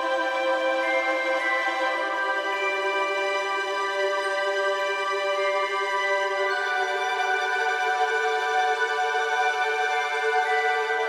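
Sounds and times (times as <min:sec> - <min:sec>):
music with sustained chords: 0:00.0 - 0:11.0.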